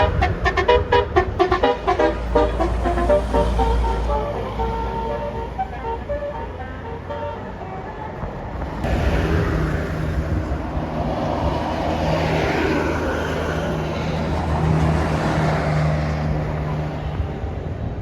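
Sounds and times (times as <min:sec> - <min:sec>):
bus engine humming: 0:00.0 - 0:18.0.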